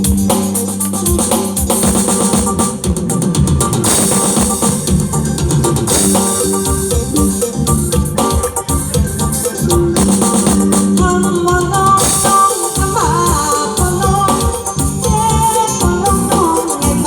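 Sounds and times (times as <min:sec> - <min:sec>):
live band music with sliding melody: 0:00.0 - 0:17.0.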